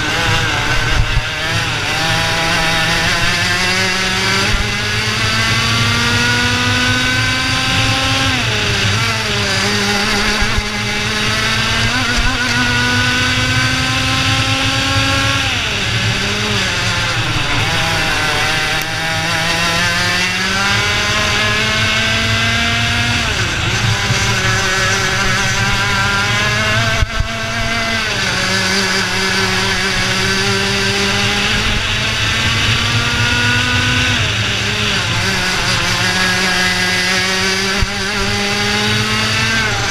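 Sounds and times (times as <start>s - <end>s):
two-stroke kart engine racing: 0.0s - 39.9s.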